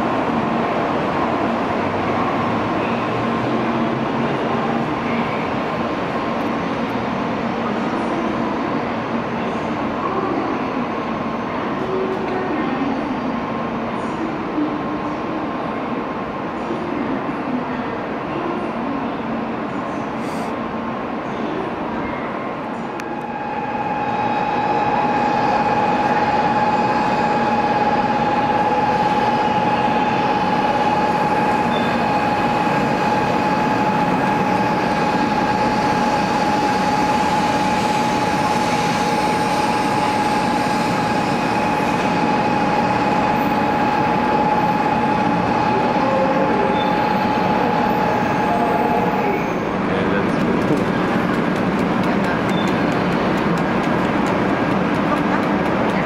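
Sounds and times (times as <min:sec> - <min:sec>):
train rushing rumble: 0:00.0 - 0:56.0.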